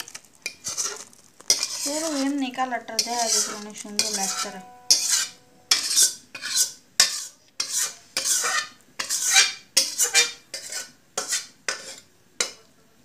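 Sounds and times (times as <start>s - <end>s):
metal spoon scraping metal pan: 0.0s - 12.6s.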